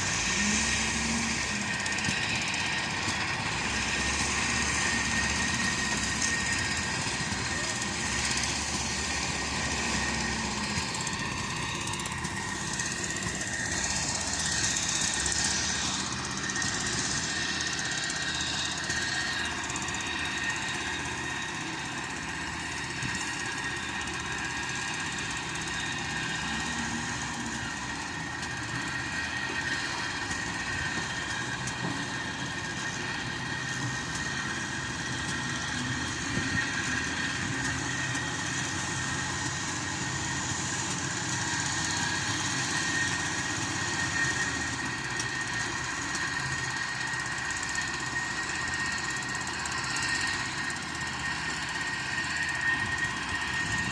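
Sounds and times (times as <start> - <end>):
diesel engine running: 0.0 - 53.9
steady high whine: 0.0 - 53.9.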